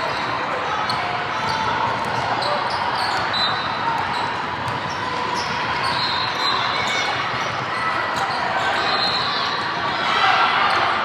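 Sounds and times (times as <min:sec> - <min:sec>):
sneakers squeaking on court: 0:00.0 - 0:09.7
gym hall noise: 0:00.0 - 0:11.0.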